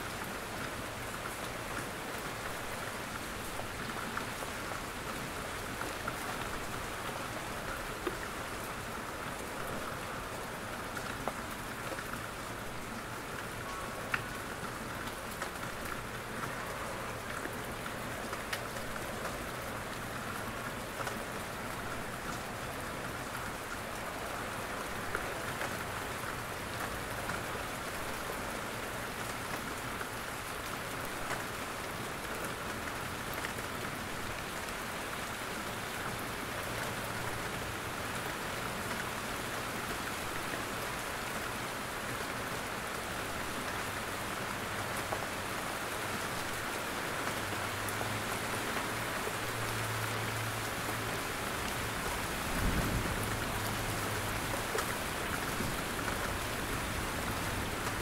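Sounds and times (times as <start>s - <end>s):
rain pattering on trees: 0.0s - 58.0s.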